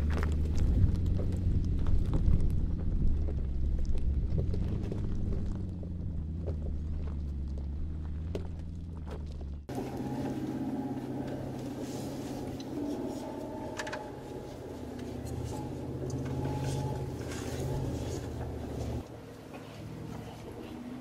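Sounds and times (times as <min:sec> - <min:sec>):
low engine hum in cabin: 0:00.0 - 0:21.0.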